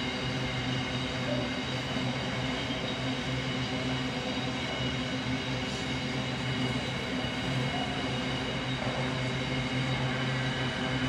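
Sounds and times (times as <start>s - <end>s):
freight train wheels on rail: 0.0s - 11.0s.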